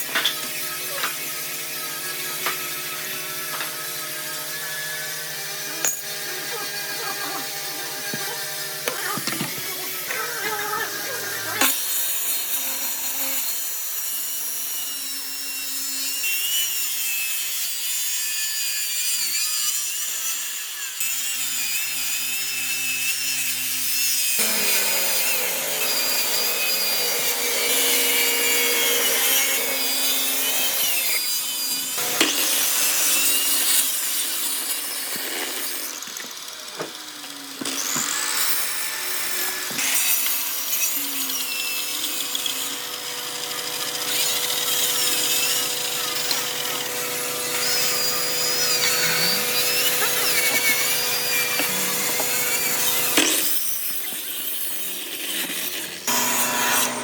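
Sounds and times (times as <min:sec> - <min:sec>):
power tools cutting wood: 0:00.0 - 0:57.0.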